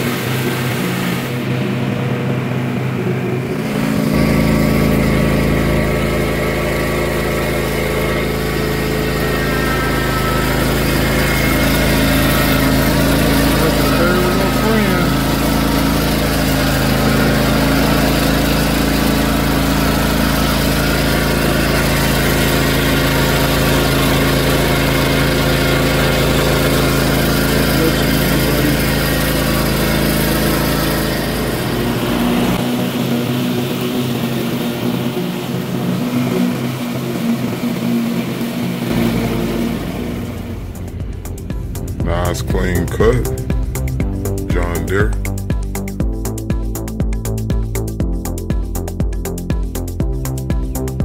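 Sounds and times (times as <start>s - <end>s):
riding lawn mower engine: 0.0s - 51.0s.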